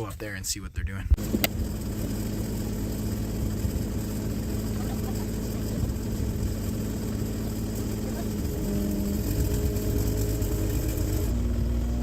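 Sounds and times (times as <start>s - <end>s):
machine engine humming: 1.2s - 12.0s.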